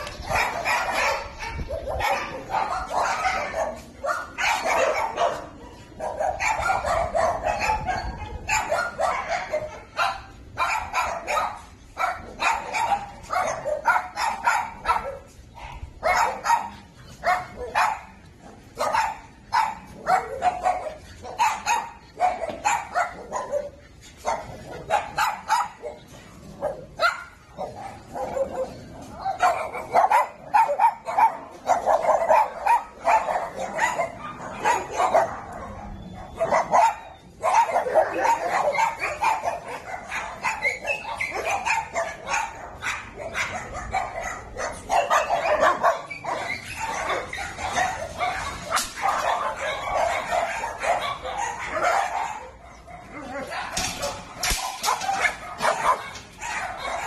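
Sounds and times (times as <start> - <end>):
many dogs barking: 0.0 - 57.0.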